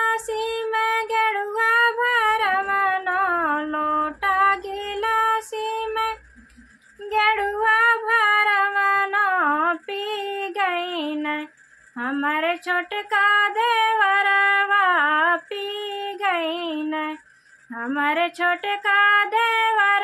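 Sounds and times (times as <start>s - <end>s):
woman singing folk song: 0.0s - 6.3s, 7.0s - 20.0s.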